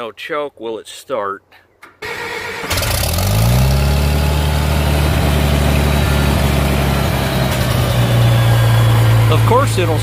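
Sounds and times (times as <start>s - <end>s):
tractor engine starting and idling: 1.8s - 10.0s.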